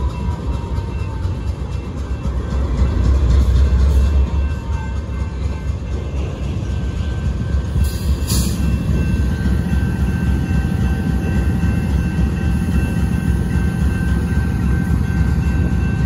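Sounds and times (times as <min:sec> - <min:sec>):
locomotive rumbling past: 0:00.0 - 0:16.0.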